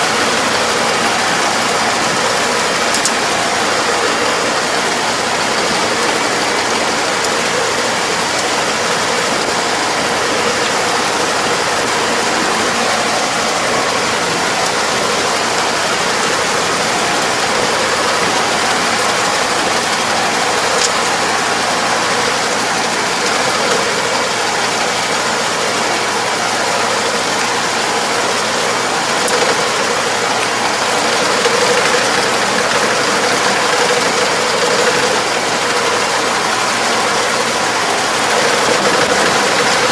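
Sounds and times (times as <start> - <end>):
mechanical clatter: 0.0 - 24.4, 28.6 - 39.9
farm machine engine running: 0.0 - 39.9.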